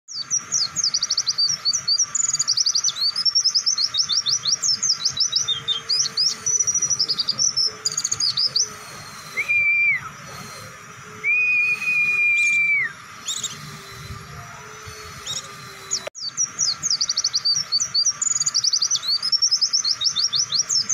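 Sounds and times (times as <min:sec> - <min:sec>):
bird twittering song: 0:00.1 - 0:20.9
bird whistled notes: 0:00.1 - 0:20.9.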